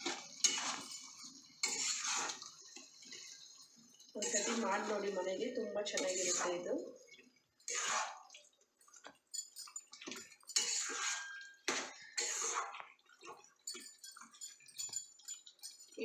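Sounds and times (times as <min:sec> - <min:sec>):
spoon scraping in steel pot: 0:00.1 - 0:03.3, 0:04.2 - 0:08.3, 0:08.9 - 0:16.0.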